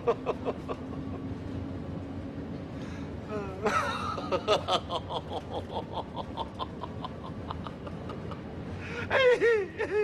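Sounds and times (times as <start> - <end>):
man laughing: 0.0 - 1.4, 3.3 - 10.0.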